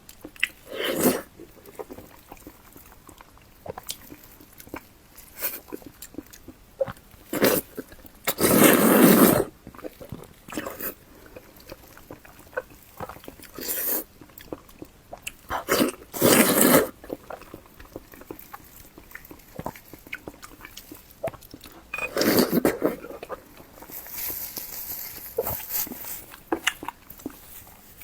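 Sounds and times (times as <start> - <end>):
person chewing and biting: 0.0 - 28.0.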